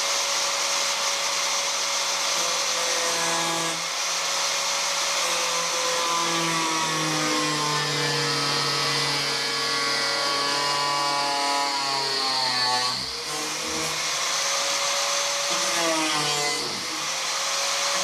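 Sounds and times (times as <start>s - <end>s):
power grinder grinding metal: 0.0s - 18.0s.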